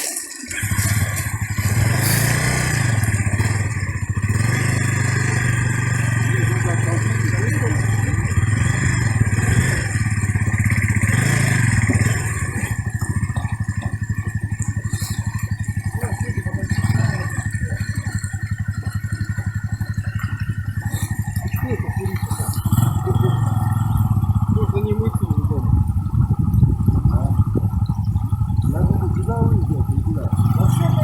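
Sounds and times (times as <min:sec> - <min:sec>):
motorcycle engine revving: 0:00.5 - 0:31.0.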